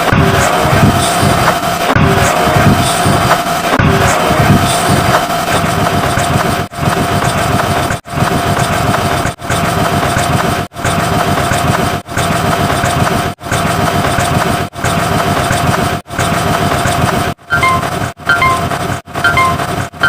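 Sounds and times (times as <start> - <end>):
rough engine running: 0.0 - 20.0.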